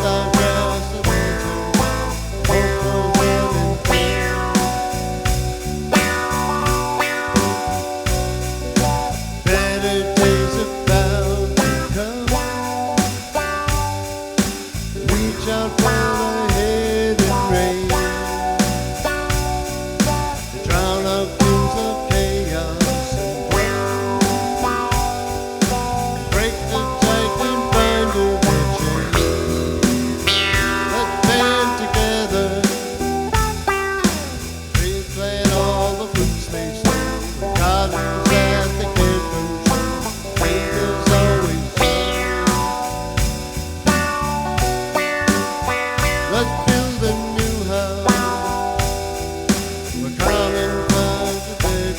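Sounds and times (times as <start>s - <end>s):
string band playing: 0.0s - 51.9s.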